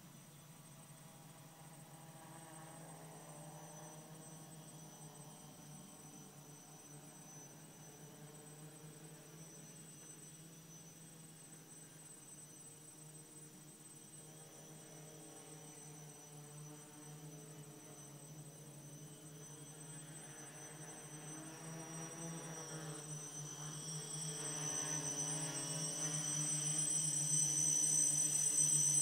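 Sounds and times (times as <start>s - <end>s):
thin high whine: 0.0s - 29.0s.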